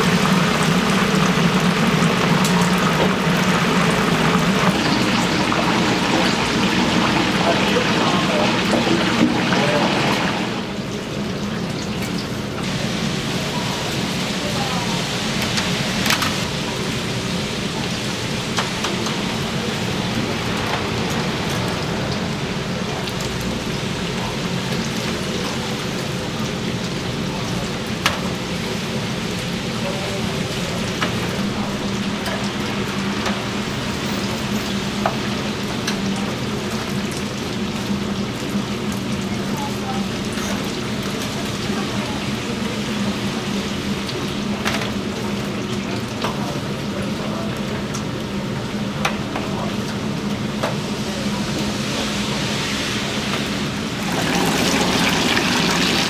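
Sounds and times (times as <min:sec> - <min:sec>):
chicken sizzling in hot oil: 0:00.0 - 0:56.0
oil crackles: 0:00.0 - 0:56.0.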